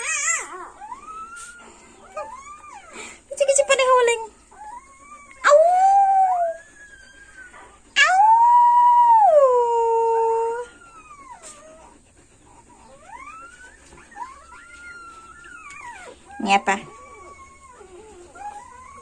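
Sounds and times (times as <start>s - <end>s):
puppy howling: 0.0s - 19.0s
puppy whining: 0.0s - 19.0s.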